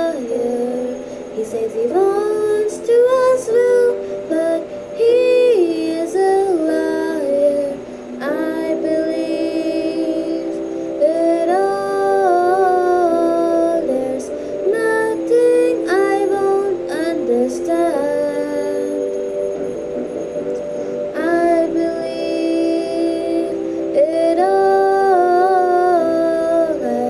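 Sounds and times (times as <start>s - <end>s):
woman singing wordless melody: 0.0s - 27.0s.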